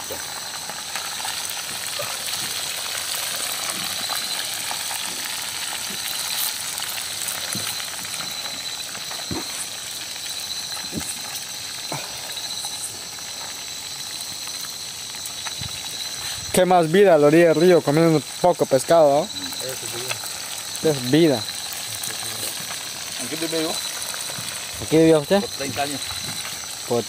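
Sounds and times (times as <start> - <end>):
fish sizzling in a skillet: 0.0 - 27.0.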